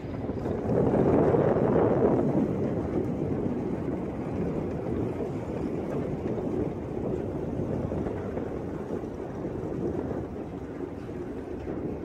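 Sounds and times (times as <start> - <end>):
steady low rumbling: 0.0 - 12.0.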